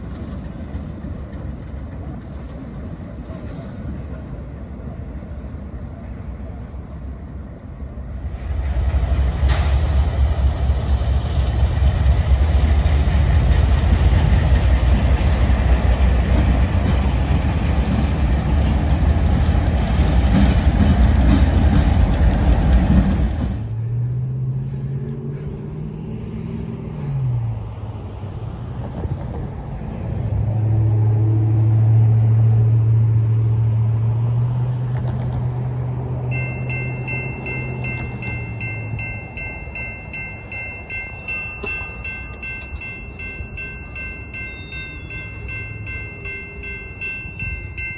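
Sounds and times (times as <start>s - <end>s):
diesel locomotive rumble: 0.0s - 47.9s.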